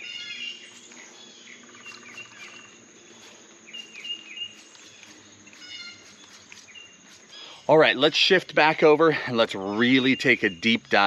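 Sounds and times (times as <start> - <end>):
birds chirping: 0.0 - 11.0
high insect drone: 0.0 - 11.0.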